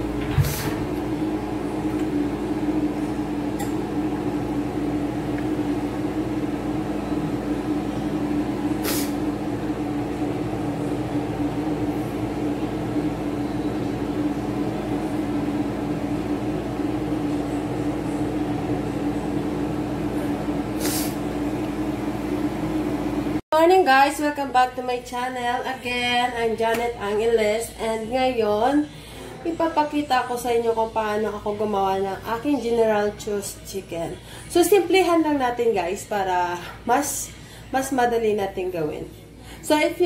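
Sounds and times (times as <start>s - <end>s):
mechanical hum: 0.0s - 40.0s.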